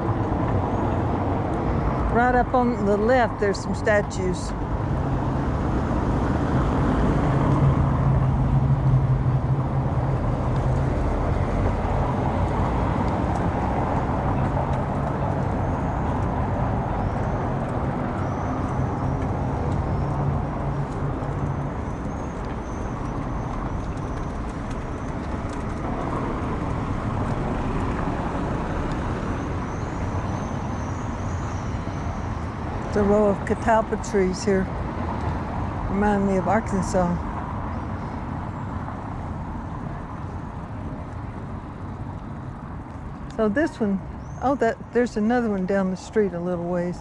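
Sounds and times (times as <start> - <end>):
bicycle riding rumble: 0.0 - 47.0
motor vehicle engine hum: 0.0 - 47.0.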